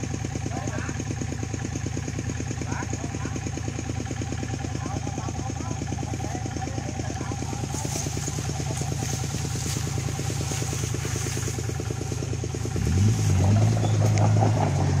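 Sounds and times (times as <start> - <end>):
tractor diesel engine idling and revving: 0.0 - 15.0.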